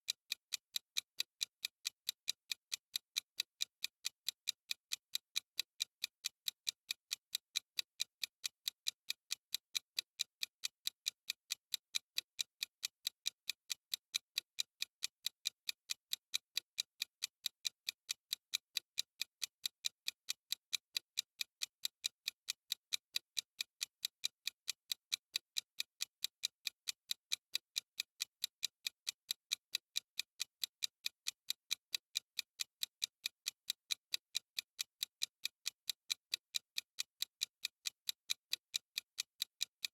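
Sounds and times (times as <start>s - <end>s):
clock timer ticking: 0.0s - 39.9s.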